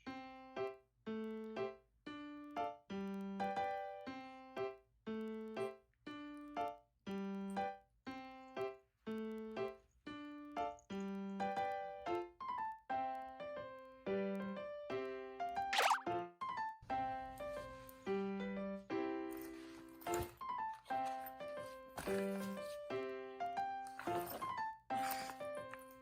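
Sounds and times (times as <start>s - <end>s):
light piano melody: 0.0s - 26.0s.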